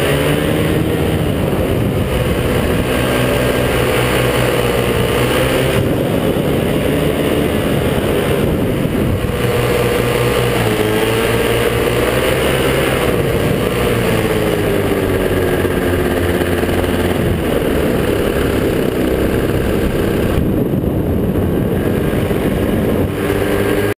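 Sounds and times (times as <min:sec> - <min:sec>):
paramotor engine and propeller: 0:00.0 - 0:24.0.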